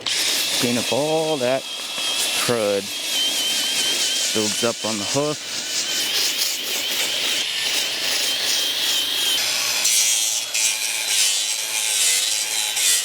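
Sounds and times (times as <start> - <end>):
hoof rasp scraping hoof: 0.0 - 13.0.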